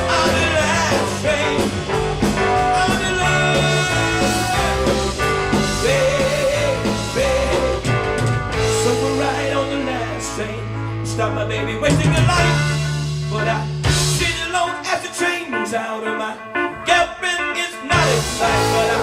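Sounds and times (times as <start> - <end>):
bass line: 0.0 - 14.9, 17.9 - 19.0
rock band instrumental: 0.0 - 19.0.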